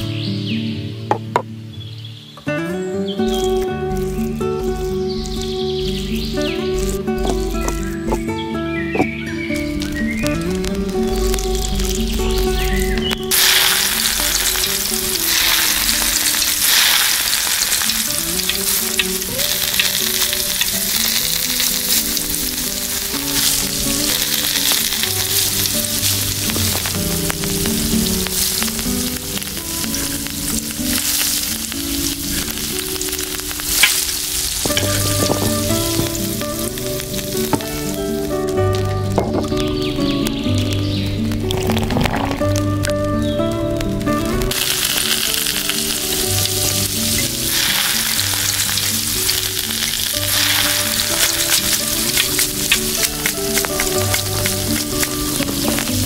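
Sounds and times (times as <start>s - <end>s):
soft background melody: 0.0s - 56.0s
food sizzling in a pan: 3.2s - 8.3s, 9.4s - 40.0s, 44.0s - 56.0s.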